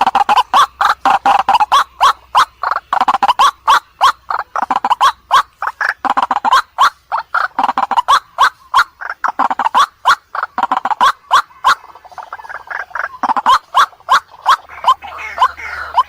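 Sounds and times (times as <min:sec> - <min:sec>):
bird calling harsh repeated notes: 0:00.0 - 0:16.0.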